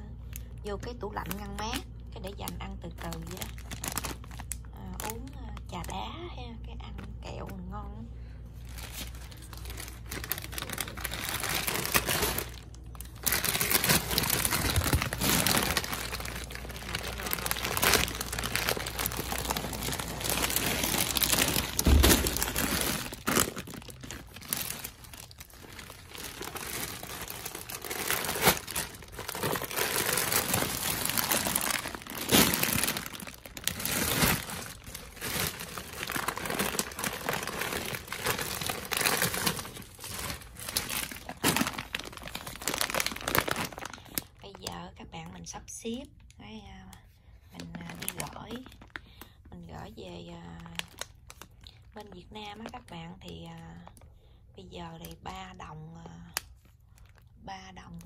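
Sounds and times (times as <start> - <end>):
plastic bags crinkling: 0.3 - 6.0, 8.5 - 45.4, 47.6 - 49.6, 50.4 - 54.0, 56.3 - 57.3.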